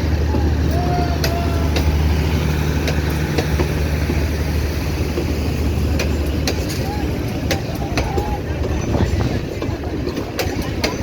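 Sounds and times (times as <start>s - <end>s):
train diesel hum and rumble: 0.0s - 11.0s.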